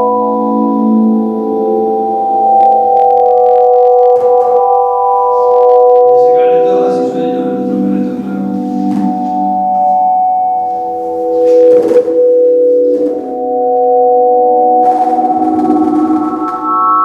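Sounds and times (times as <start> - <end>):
sustained electronic tones: 0.0 - 17.0.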